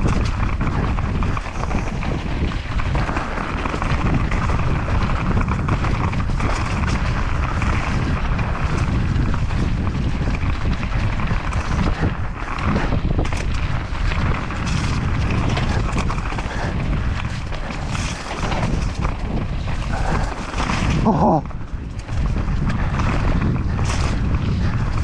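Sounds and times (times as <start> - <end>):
mountain bike rumbling and rattling: 0.0 - 25.0
wind buffeting microphone: 0.0 - 25.0.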